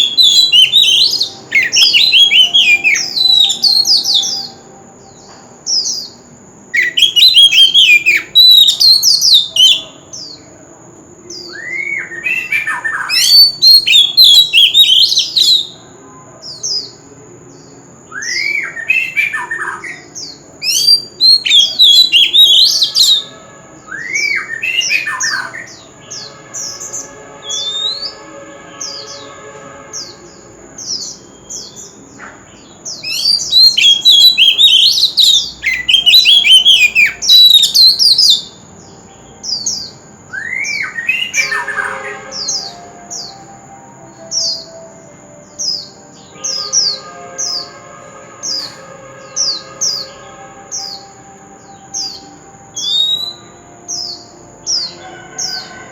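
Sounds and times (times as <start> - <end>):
songbird whistling song: 0.0 - 55.9.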